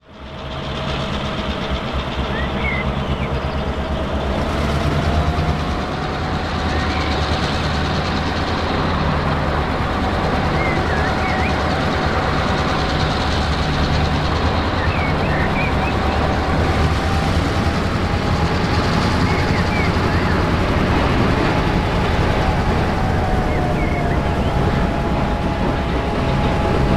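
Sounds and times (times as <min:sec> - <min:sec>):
diesel locomotive engine running: 0:00.0 - 0:26.9
train rumbling: 0:00.0 - 0:26.9.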